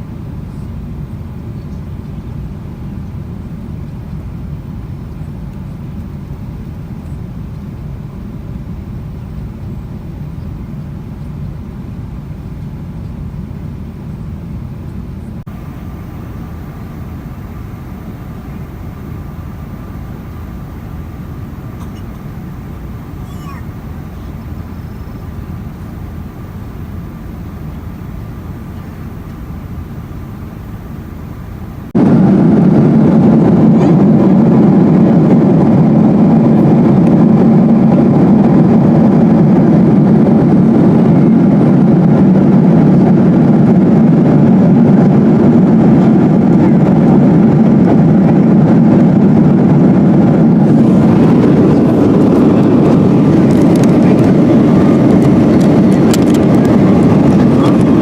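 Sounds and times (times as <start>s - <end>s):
airplane cabin rushing noise: 2.3s - 58.0s.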